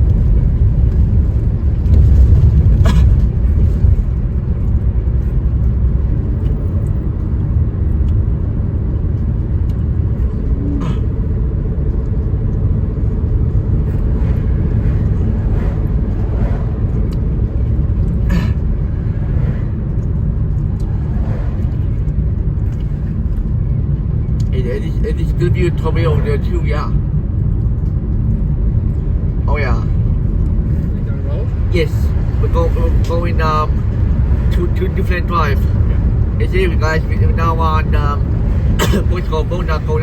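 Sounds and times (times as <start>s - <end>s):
car road and engine noise: 0.0s - 40.0s.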